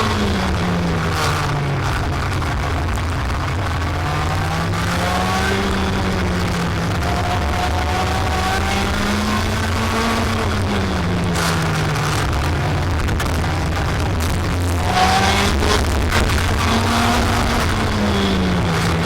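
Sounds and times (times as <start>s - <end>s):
kart engine running: 0.0s - 19.0s.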